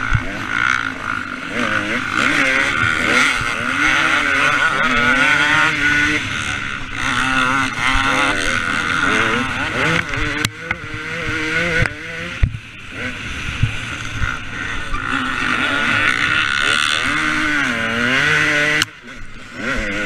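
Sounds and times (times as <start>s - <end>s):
two-stroke motocross bike revving: 0.0s - 20.0s.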